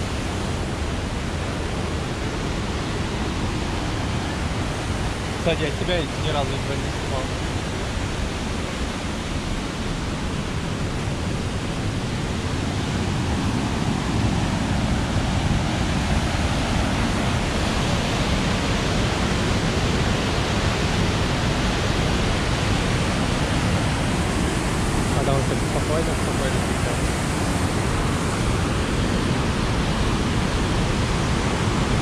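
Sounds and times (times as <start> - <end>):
river rapids rushing: 0.0 - 32.0.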